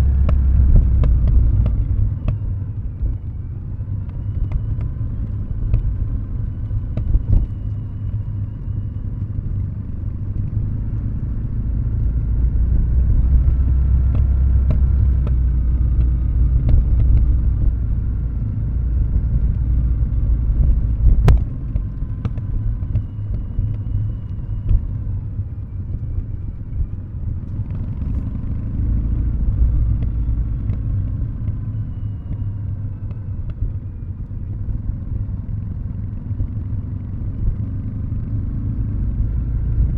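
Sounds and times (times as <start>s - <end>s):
motorcycle engine burbling: 0.0s - 39.9s.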